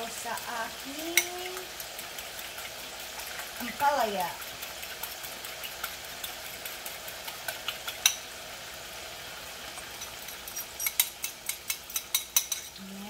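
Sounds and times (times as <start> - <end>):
food sizzling in oil: 0.0 - 13.0
utensil clicking against pan: 0.3 - 8.2, 9.8 - 12.8.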